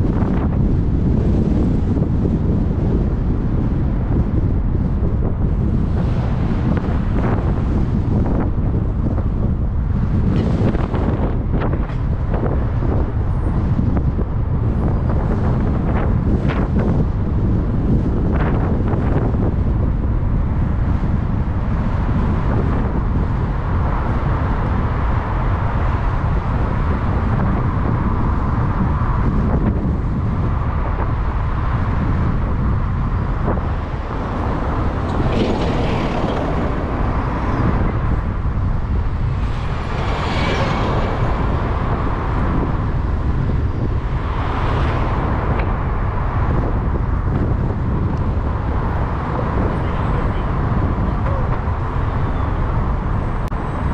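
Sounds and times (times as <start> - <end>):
road rumble: 0.0 - 53.9
traffic passing: 0.0 - 53.9
wind noise on microphone: 0.0 - 53.9.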